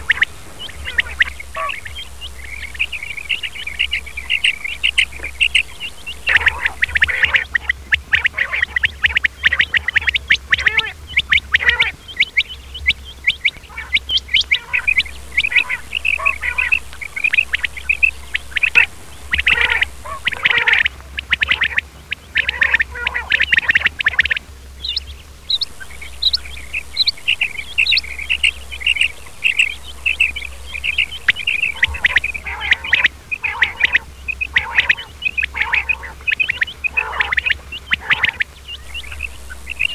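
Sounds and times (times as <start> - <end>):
quails calling: 0.0 - 39.9.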